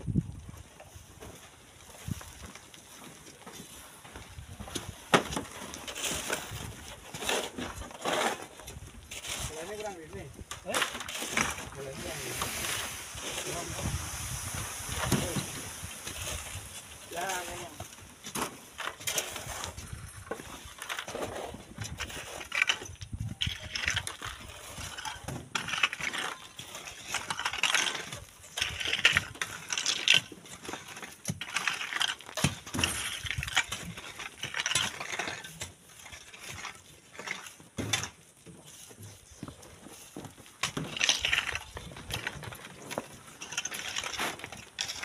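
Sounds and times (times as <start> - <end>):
stones clinking and scraping: 1.8 - 45.0.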